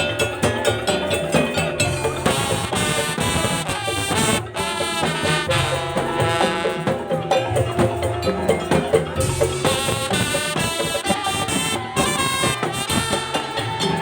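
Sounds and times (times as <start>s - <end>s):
drums and struck percussion: 0.0s - 14.0s
percussion ensemble playing melody: 0.0s - 14.0s.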